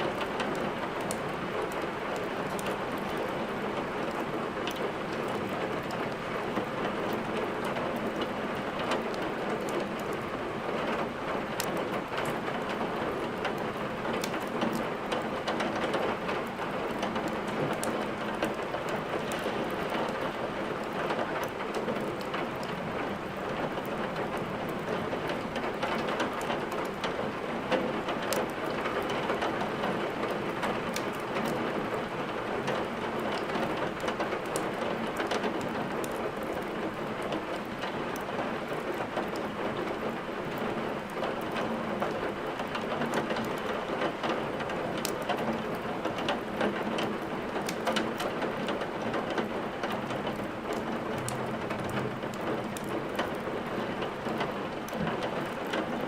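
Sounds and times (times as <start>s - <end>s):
steady rain: 0.0s - 56.0s
crackling wood fire: 0.1s - 56.0s.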